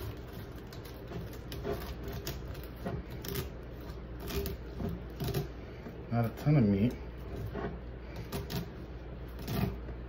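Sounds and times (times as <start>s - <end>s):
knife cutting fish fillet: 0.0s - 5.9s, 7.2s - 10.0s
blade scraping and clicking on bones: 0.0s - 6.4s, 7.2s - 10.0s
steady low hum: 0.0s - 10.0s.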